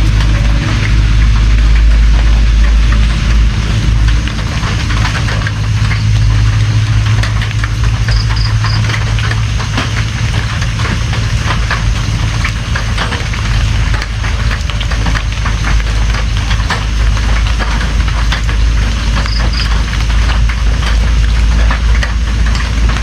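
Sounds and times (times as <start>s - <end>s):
low rain rumble: 0.0s - 23.0s
raindrops ticking on a surface: 0.0s - 23.0s.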